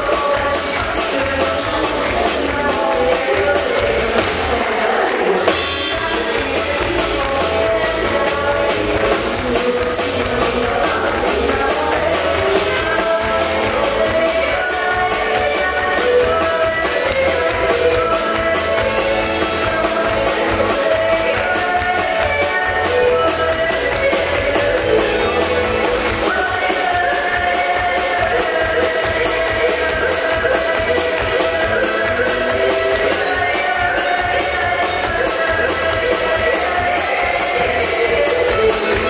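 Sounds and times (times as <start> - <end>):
drums: 0.0 - 39.0
electric bass guitar: 0.0 - 39.0
guitar: 0.0 - 39.0
woman singing into microphone: 0.0 - 39.0.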